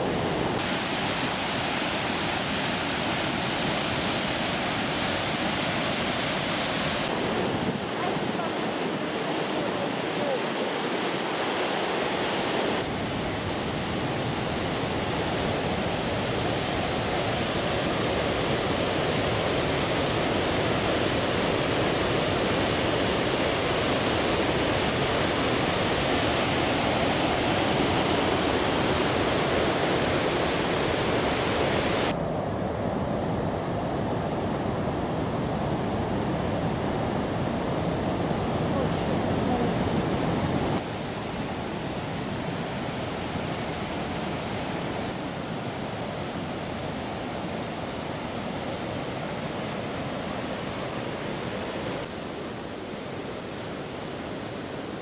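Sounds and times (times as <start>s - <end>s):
waterfall rushing: 0.0s - 32.2s, 34.7s - 55.0s.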